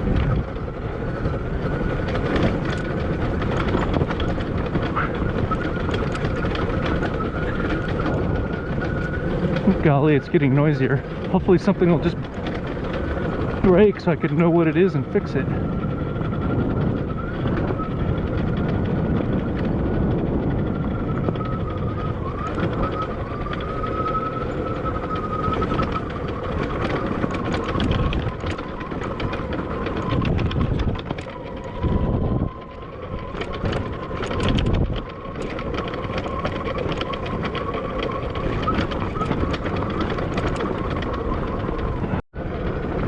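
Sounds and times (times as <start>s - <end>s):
bike rattles and clicks: 0.0s - 43.0s
wind buffeting microphone: 0.0s - 43.0s.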